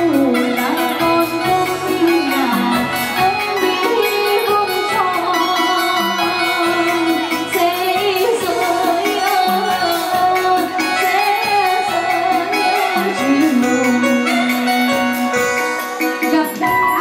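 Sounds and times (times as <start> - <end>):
woman singing folk song: 0.0 - 14.4
instrumental backing music: 0.0 - 17.0.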